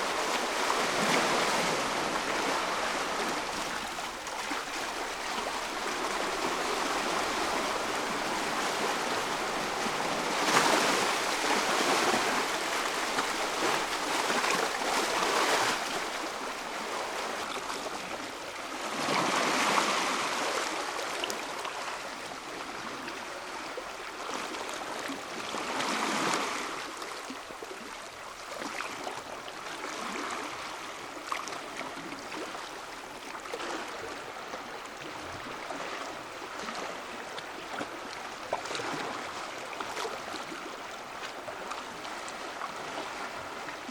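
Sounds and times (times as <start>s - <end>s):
waves washing onto shore: 0.0s - 43.9s.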